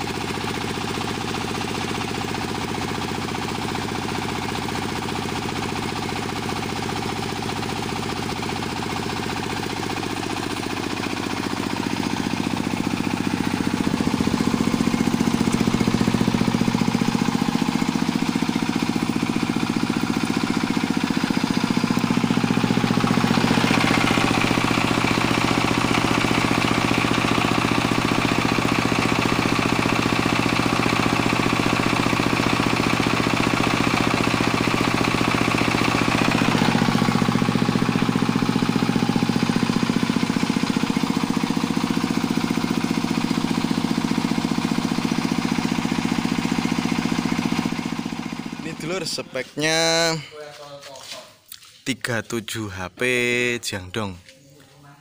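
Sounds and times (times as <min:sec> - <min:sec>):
diesel engine knocking: 0:00.0 - 0:50.2.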